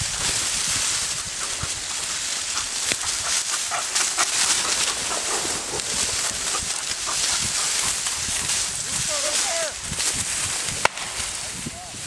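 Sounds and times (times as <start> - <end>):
dry stalks crackling underfoot: 0.0 - 12.0.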